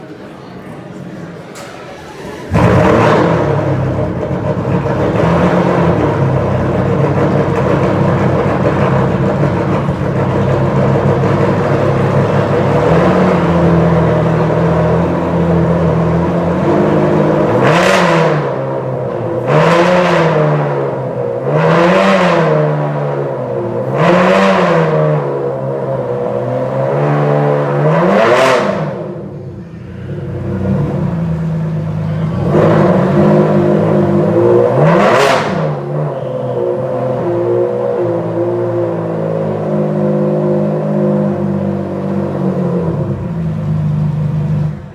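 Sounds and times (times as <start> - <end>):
car engine idling and revving: 2.0 - 44.9.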